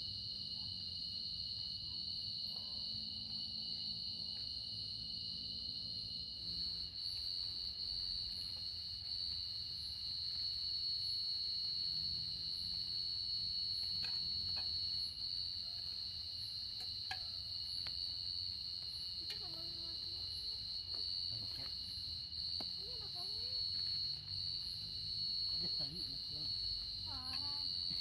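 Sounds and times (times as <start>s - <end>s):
insects trilling chorus: 0.0s - 28.0s.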